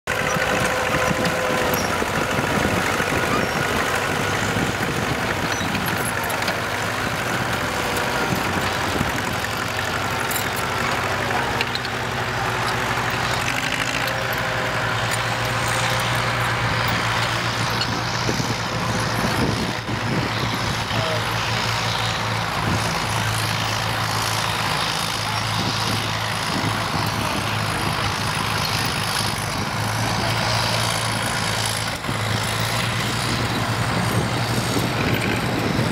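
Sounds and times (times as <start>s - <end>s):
background diesel machinery: 0.0s - 35.9s
diesel crawler tractor engine: 0.0s - 35.9s.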